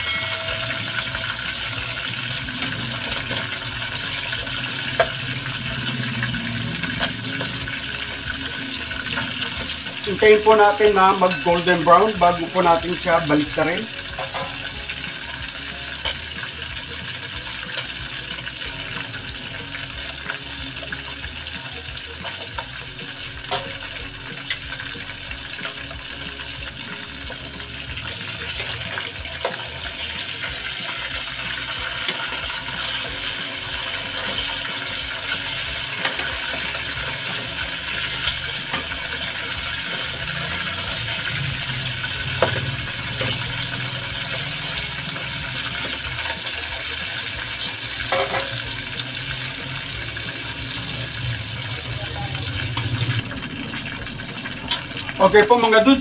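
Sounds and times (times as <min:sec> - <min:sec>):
oil sizzling and bubbling: 0:00.0 - 0:56.0.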